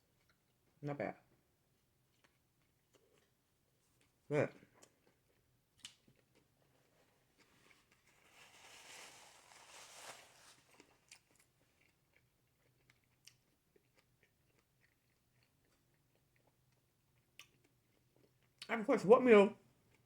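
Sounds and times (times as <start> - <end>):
faint crunchy chewing: 0.0 - 0.8, 1.7 - 18.7.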